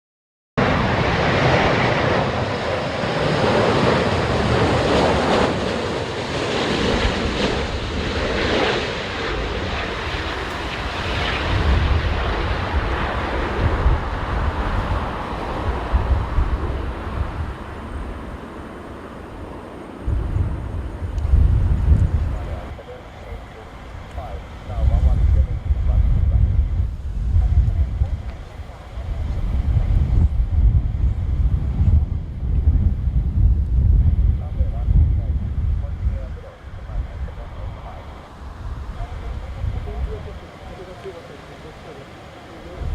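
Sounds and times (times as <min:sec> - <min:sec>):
jet engine roar: 0:00.6 - 0:42.9
wind rumbling on microphone: 0:00.6 - 0:42.9.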